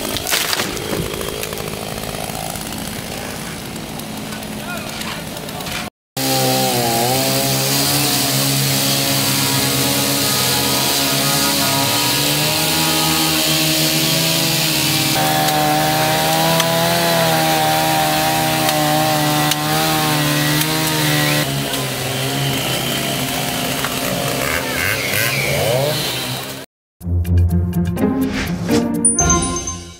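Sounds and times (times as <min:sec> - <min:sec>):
chainsaw cutting wood: 0:00.0 - 0:26.7.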